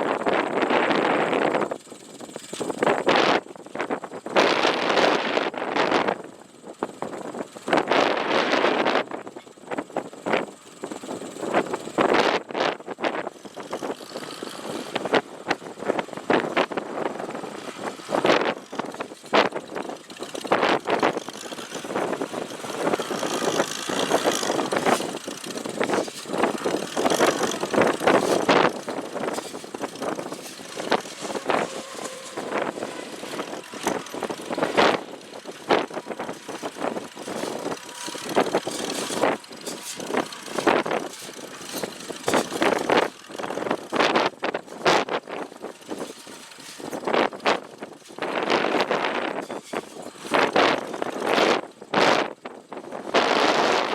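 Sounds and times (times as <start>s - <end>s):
engine running: 0.0s - 53.9s
wind buffeting microphone: 0.0s - 53.9s.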